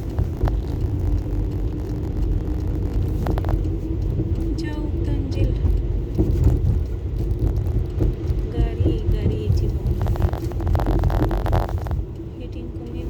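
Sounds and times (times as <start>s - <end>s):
engine and tyre rumble in car: 0.0s - 13.0s.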